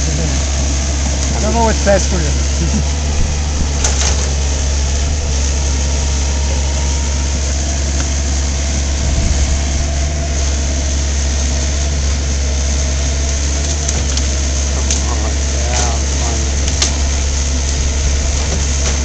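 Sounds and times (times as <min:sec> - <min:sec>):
excavator diesel engine under load: 0:00.0 - 0:19.0.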